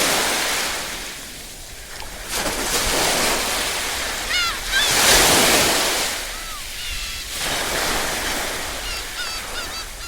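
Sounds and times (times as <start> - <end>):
small waves lapping: 0.0 - 10.0.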